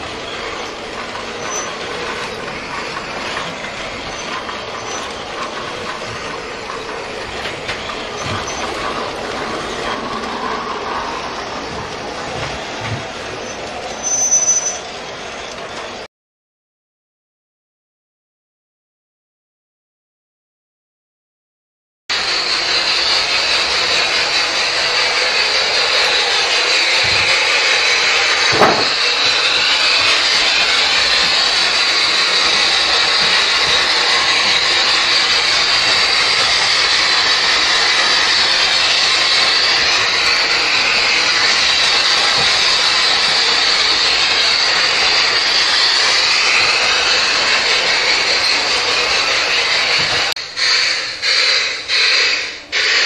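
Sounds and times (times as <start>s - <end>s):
model train whirring hiss: 0.0s - 15.7s, 22.1s - 53.0s.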